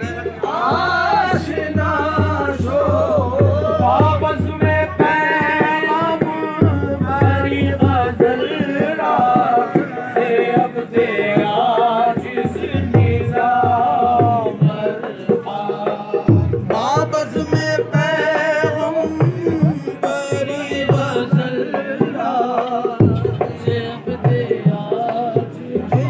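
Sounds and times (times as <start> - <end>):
hand drum beat: 0.0 - 26.0
voices singing devotional song: 0.0 - 26.0.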